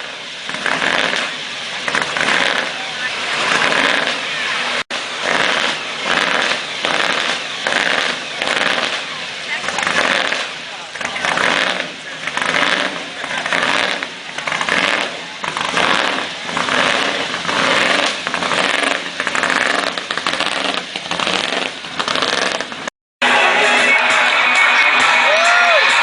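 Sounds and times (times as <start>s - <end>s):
engine running with surging: 0.0s - 22.9s.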